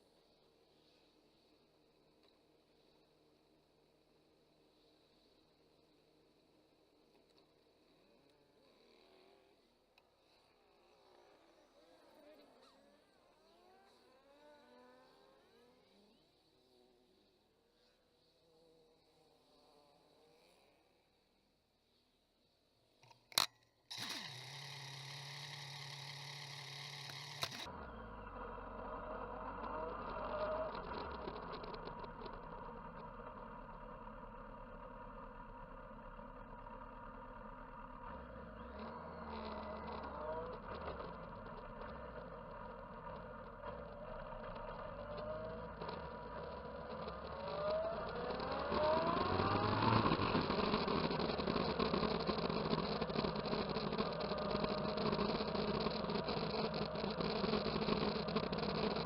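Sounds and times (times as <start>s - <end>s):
motorcycle engines revving: 0.0s - 21.0s, 23.3s - 59.0s.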